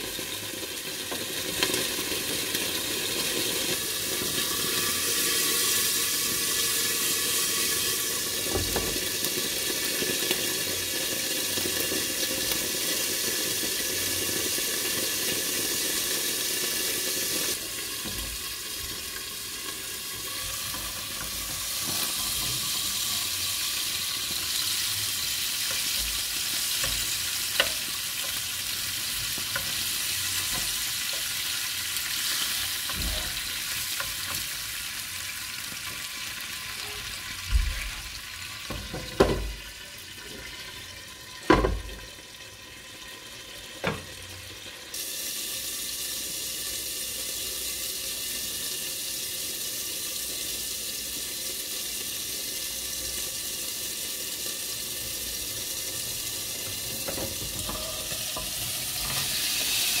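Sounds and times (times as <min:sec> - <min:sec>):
food sizzling in a pan: 0:00.0 - 1:00.0.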